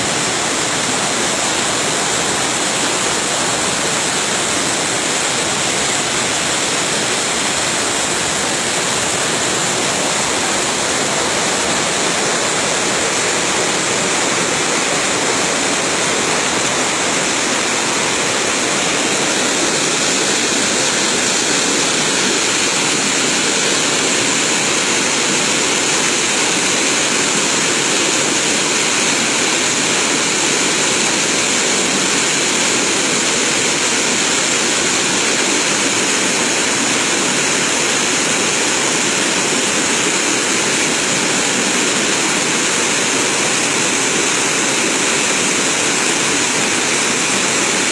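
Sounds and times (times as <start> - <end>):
water rushing over stones: 0.0 - 47.9.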